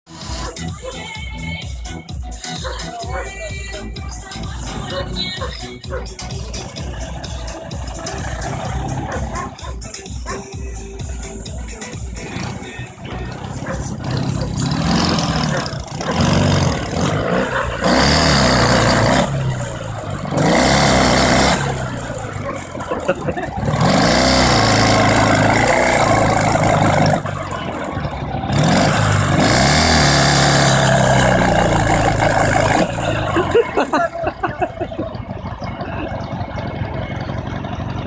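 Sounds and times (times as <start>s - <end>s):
motorcycle engine revving hard: 4.3s - 38.0s.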